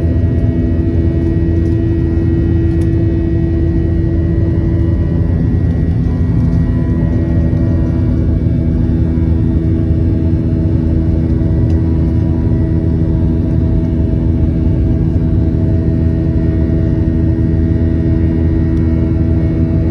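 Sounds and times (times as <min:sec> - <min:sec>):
airflow roar: 0:00.0 - 0:19.9
humming tones: 0:00.0 - 0:19.9
jet engine drone: 0:00.0 - 0:19.9.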